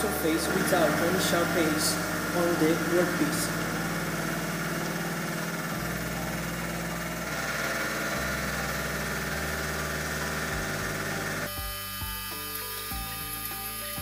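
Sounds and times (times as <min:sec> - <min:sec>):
milling machine humming: 0:00.0 - 0:14.0.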